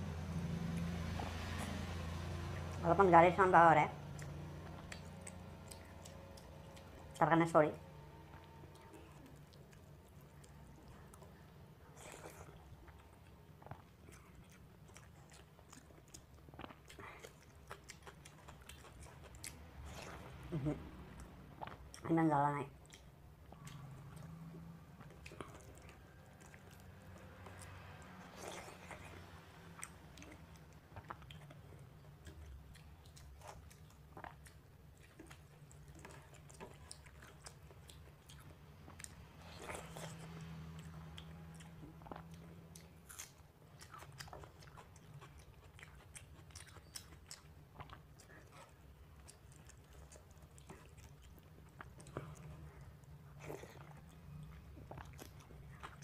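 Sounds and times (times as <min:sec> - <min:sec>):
chewing: 0:00.5 - 0:02.8, 0:04.0 - 0:07.2, 0:07.8 - 0:56.0.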